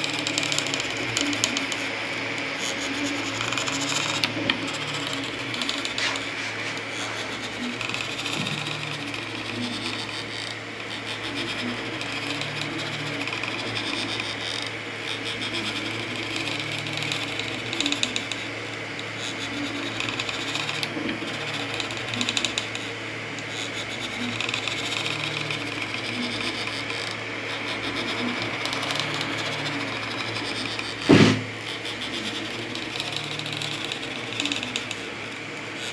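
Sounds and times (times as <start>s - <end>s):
cooling fans whirring: 0.0s - 35.9s
stepper motor tones: 0.0s - 35.9s.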